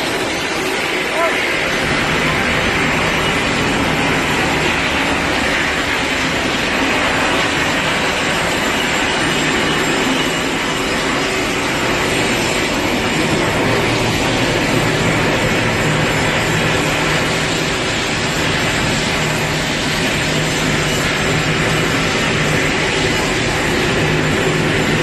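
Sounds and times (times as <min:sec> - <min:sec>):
ship machinery rumbling: 0:00.0 - 0:25.0.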